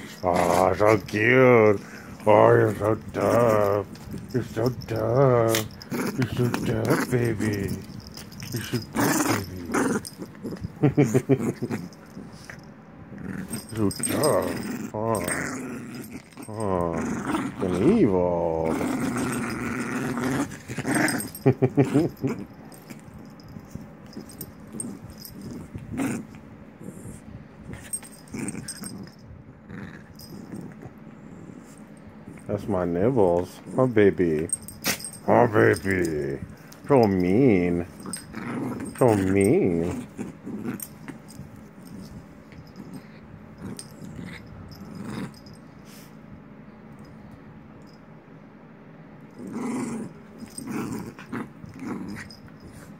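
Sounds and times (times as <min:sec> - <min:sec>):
small dog play-growling: 0:00.0 - 0:46.2, 0:49.2 - 0:52.9.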